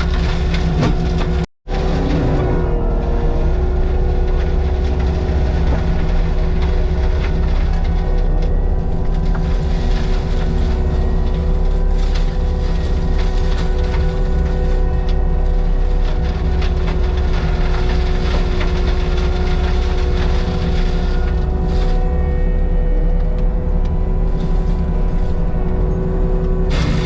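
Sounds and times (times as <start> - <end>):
diesel engine running: 0.0 - 27.0
steady mechanical whine: 0.0 - 27.0.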